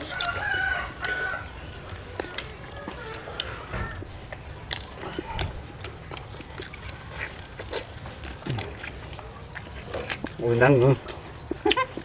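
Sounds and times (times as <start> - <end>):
people chewing and smacking: 0.0 - 12.0.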